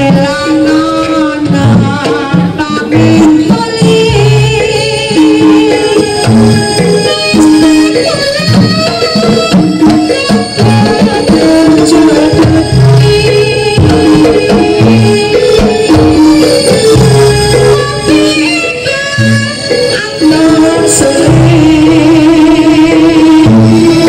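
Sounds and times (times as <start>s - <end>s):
gamelan ensemble music: 0.0s - 24.0s
hand drums beating: 0.0s - 24.0s.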